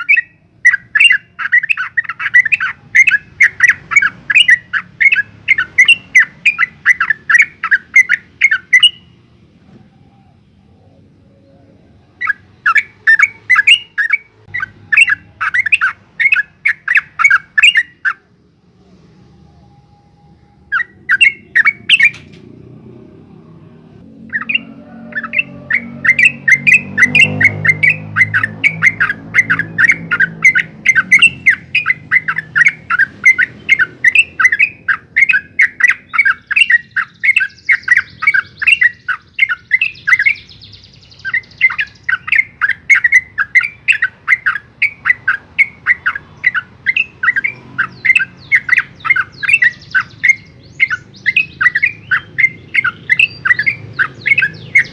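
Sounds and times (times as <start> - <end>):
bird singing sharp repeated notes: 0.0 - 9.6, 10.4 - 54.9.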